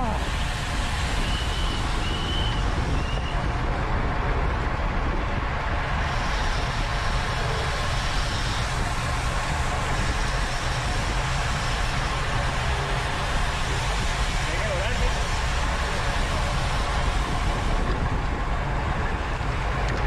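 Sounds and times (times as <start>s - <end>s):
bicycle road noise: 0.0s - 20.0s
wind over microphone: 0.0s - 20.0s.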